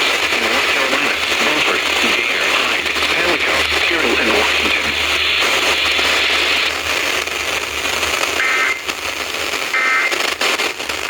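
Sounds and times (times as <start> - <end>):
warbling data bursts: 0.0 - 9.2
radio hiss and static: 0.0 - 11.0.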